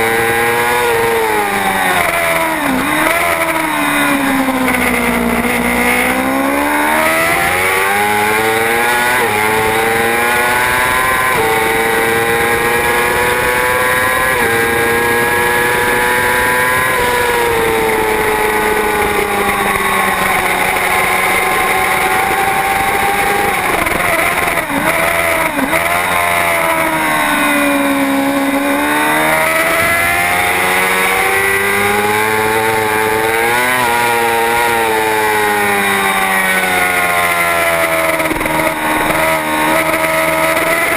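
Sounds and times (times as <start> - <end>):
racing motorcycle engine revving: 0.0 - 40.9.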